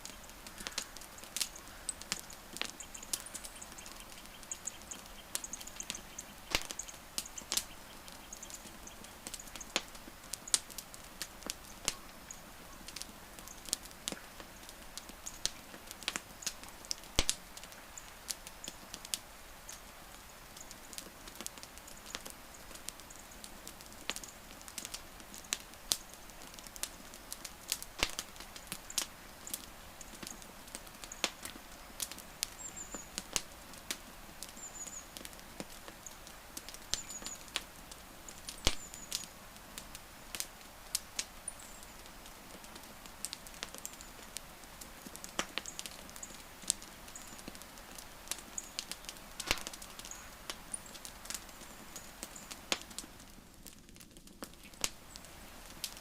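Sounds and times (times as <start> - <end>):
soft steady hiss: 0.0 - 56.0
wood fire crackling: 0.0 - 56.0.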